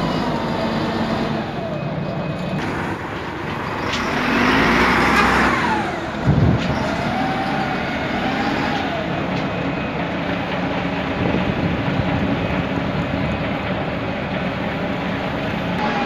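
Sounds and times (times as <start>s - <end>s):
diesel forklift running: 0.0s - 16.0s.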